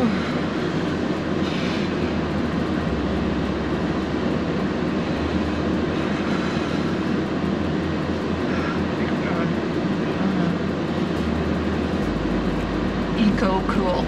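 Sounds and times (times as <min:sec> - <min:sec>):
car heater fan blowing: 0:00.0 - 0:14.0
low road and engine hum: 0:00.0 - 0:14.0.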